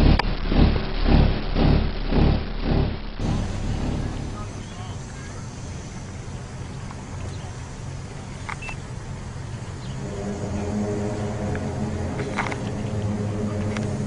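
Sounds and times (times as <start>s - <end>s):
low rumbling hum: 0.0s - 14.0s.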